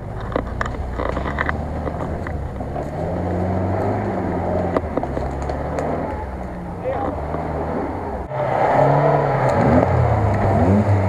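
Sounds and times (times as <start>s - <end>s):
engine running under load: 0.0s - 11.0s.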